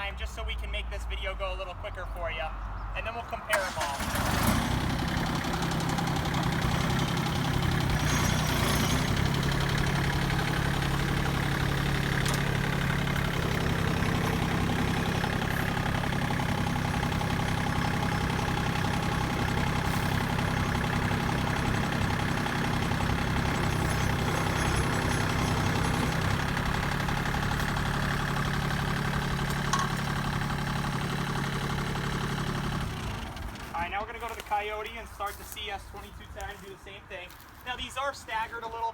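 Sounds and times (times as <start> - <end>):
tractor diesel engine running: 3.1 - 38.9.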